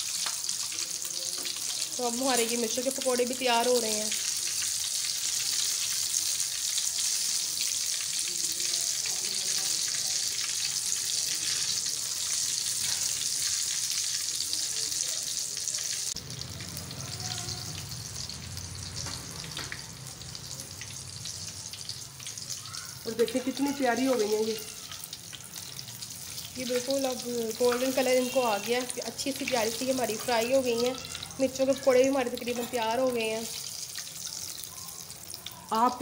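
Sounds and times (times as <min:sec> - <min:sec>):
food deep-frying in hot oil: 0:00.0 - 0:36.0
oil crackling: 0:00.0 - 0:36.0.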